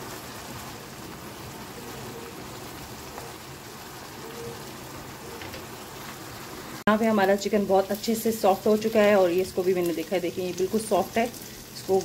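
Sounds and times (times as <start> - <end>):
gravy bubbling and sizzling in a pan: 0.0 - 12.0.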